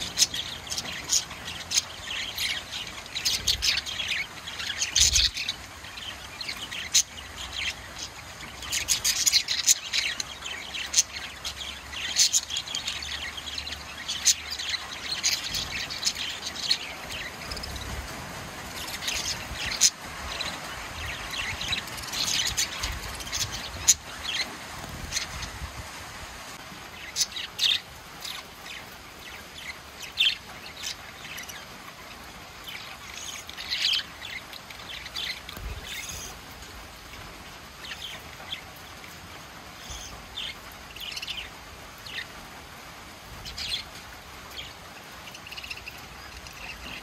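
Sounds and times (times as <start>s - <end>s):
budgerigars chirping: 0.0s - 25.7s, 26.9s - 42.4s, 43.4s - 47.0s.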